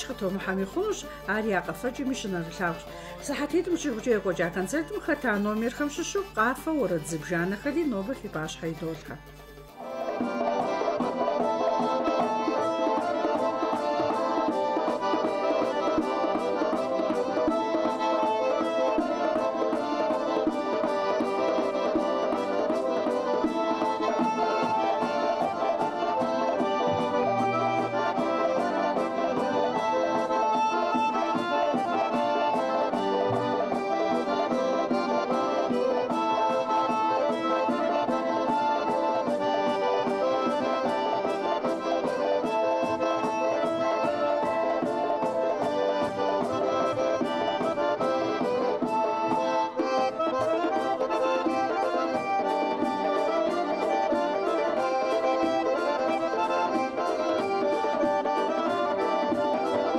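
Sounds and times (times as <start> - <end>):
accordion folk dance music: 0.0 - 59.9.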